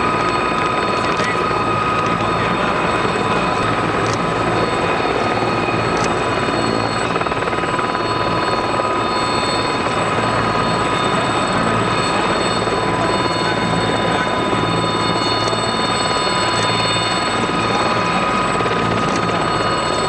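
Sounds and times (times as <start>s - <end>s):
helicopter rotor churning: 0.0s - 20.0s
helicopter turbine whine: 0.0s - 20.0s.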